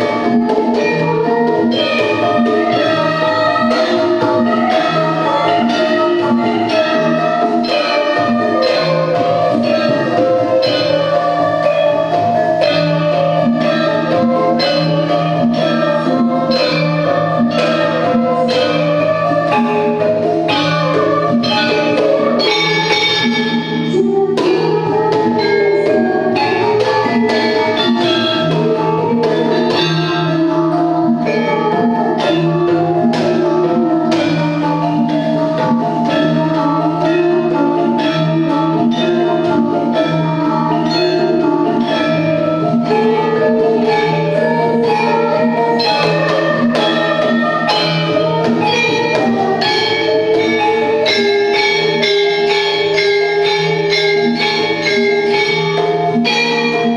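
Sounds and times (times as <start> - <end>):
hand drumming: 0.0 - 56.9
metallophones ringing: 0.0 - 56.9.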